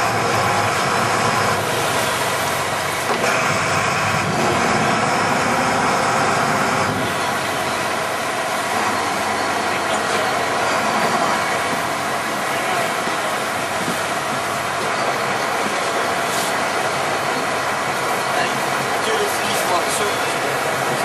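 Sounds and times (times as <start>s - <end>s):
boat engine running: 0.0s - 21.0s
churning wake water: 0.0s - 21.0s.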